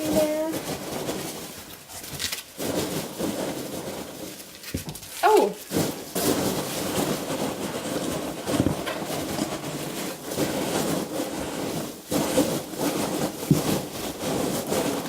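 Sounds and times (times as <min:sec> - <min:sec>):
packing material rustling: 0:00.0 - 0:15.0.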